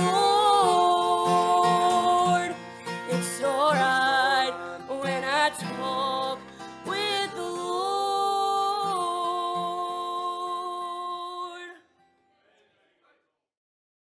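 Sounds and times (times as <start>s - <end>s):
guitar accompaniment: 0.0s - 12.4s.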